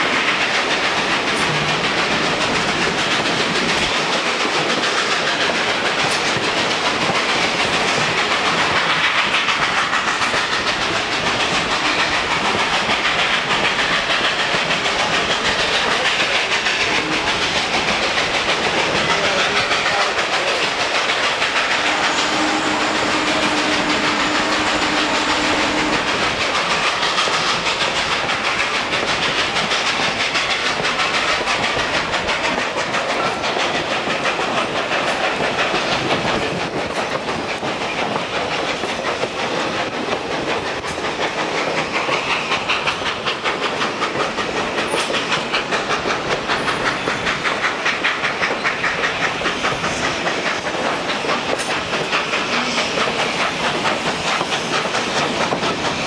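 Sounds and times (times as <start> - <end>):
train wheel and rail noise: 0.0 - 56.0.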